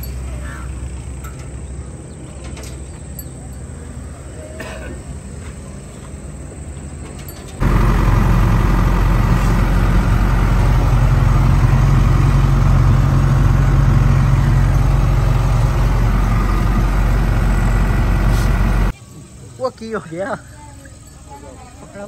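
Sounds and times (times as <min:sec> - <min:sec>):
vehicle engine and road noise: 0:00.0 - 0:19.6.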